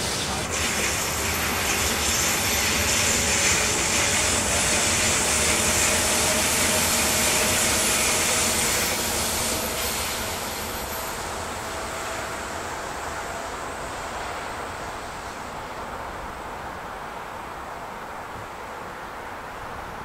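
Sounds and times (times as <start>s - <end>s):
train wheels on rails: 0.0s - 17.3s.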